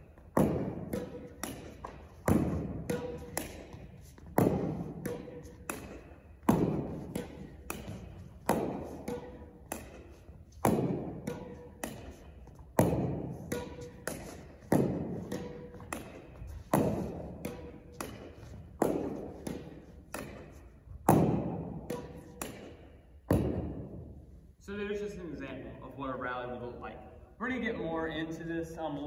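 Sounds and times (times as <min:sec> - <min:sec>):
racket hitting tennis ball: 0:00.0 - 0:24.3
ball knocking off wall and floor: 0:00.2 - 0:23.8.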